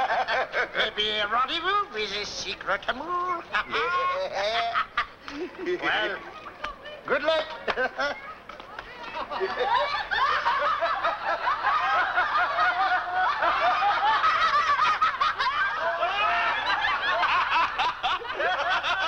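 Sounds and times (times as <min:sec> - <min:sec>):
group of people laughing: 0:00.0 - 0:01.2, 0:03.3 - 0:06.6, 0:07.2 - 0:19.0.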